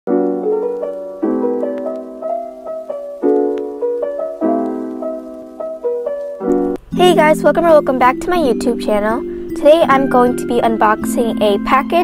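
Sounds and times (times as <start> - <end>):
soft piano chords: 0.1 - 12.0.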